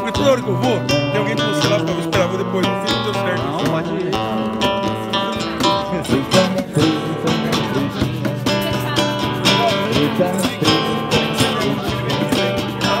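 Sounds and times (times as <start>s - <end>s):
plucked and strummed music: 0.0s - 13.0s.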